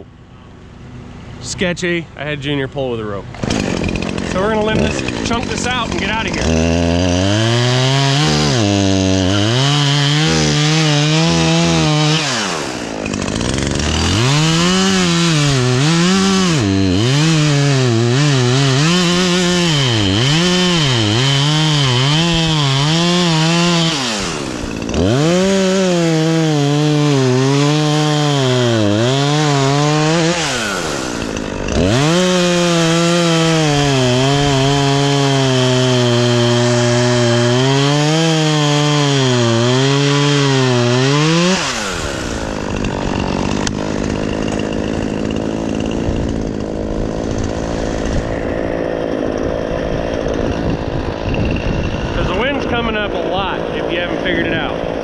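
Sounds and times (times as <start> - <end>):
chainsaw cutting wood: 3.2 - 55.0.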